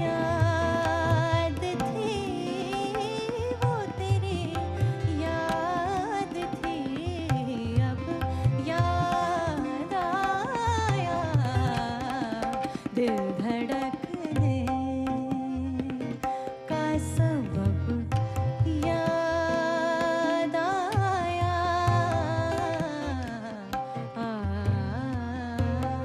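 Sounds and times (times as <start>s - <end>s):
tabla strokes: 0.0s - 26.0s.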